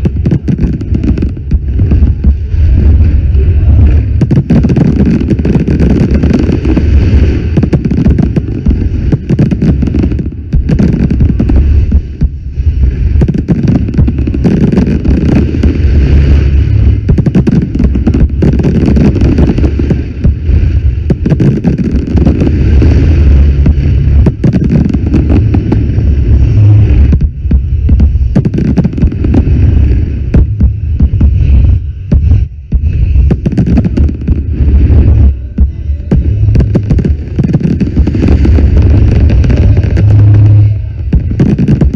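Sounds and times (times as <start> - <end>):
deep rumble: 0.0 - 41.9
fireworks bangs and crackles: 0.0 - 41.9.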